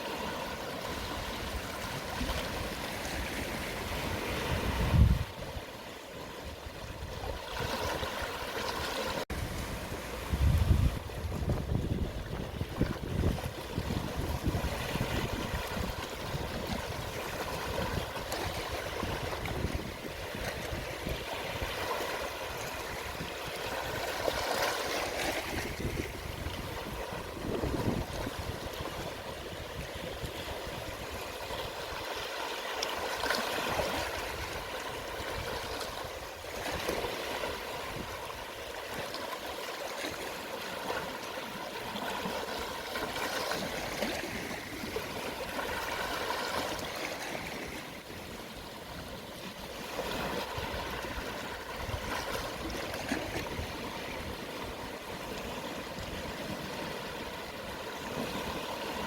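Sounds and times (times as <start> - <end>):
waves washing over shore: 0.0 - 59.0.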